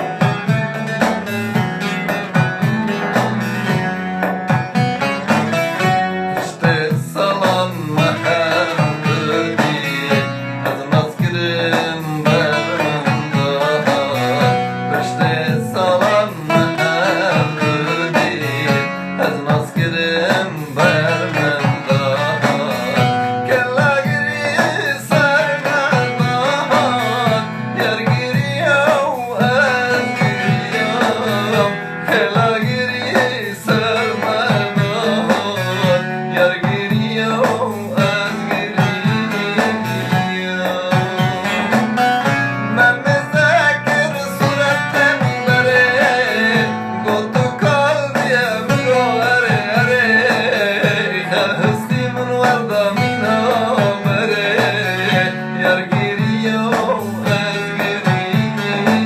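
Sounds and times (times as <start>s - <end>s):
person singing: 0.0s - 59.0s
plucked string instruments: 0.0s - 59.0s.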